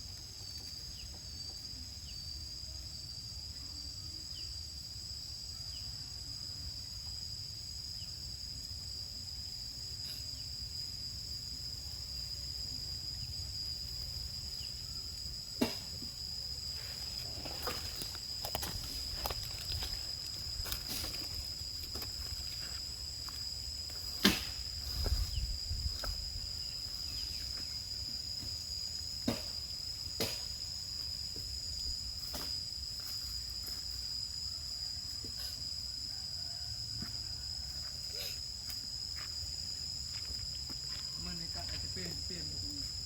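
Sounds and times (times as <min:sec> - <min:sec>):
high-pitched insect chirring: 0:00.0 - 0:43.0.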